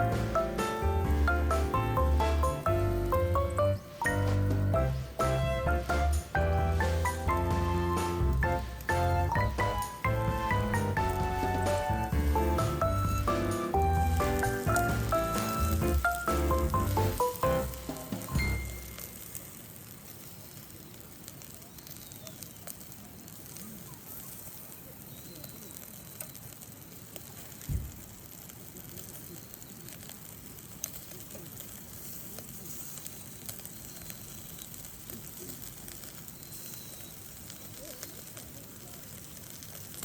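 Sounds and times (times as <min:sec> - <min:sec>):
fire crackling: 0:00.0 - 0:40.0.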